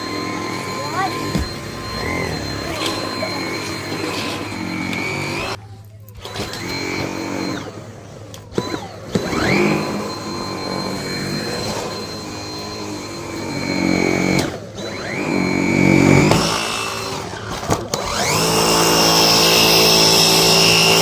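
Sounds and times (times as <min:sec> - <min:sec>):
vacuum cleaner running on carpet: 0:00.0 - 0:21.0.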